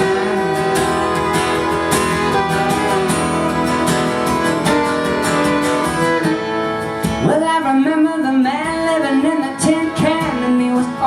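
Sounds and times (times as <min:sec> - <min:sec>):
held melodic notes: 0:00.0 - 0:11.0
strummed acoustic guitar: 0:00.0 - 0:11.0.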